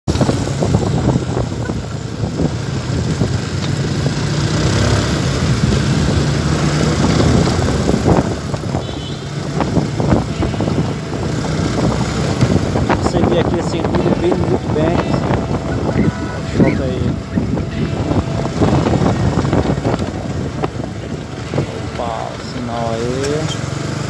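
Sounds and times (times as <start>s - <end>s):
road noise: 0.1s - 24.0s
vehicle engine running: 0.1s - 24.0s.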